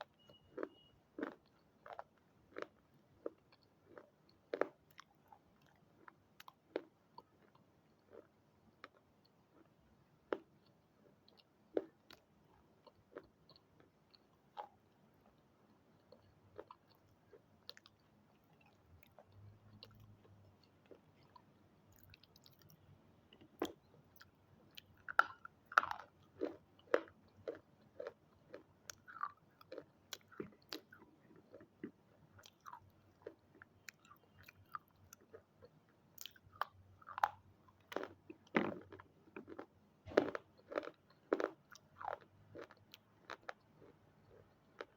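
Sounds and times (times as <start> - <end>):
crunching and chewing: 0.0 - 44.9.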